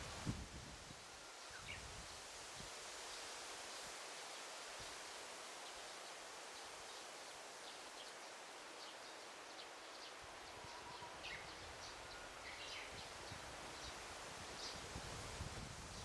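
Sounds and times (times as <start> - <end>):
rustling leaves: 0.0 - 16.0.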